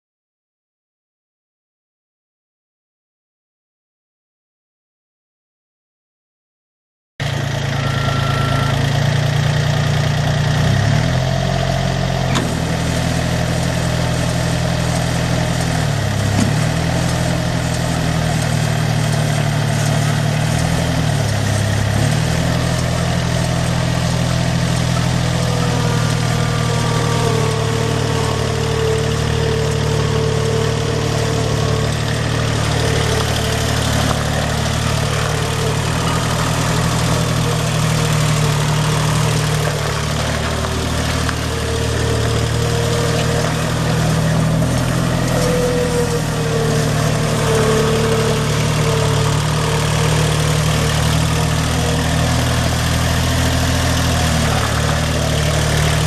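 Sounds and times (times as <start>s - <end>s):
diesel engine idling: 7.2s - 56.0s.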